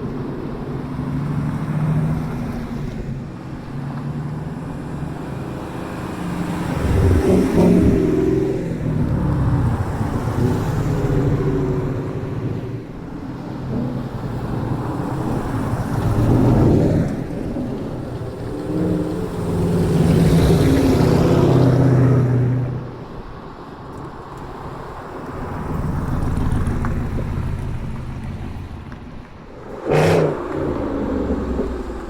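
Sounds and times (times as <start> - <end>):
cars driving past: 0.1 - 32.0.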